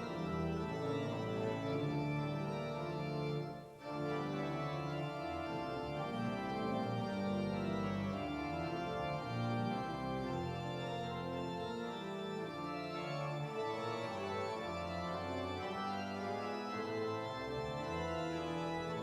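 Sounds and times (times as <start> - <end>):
church organ chords: 0.0 - 19.0.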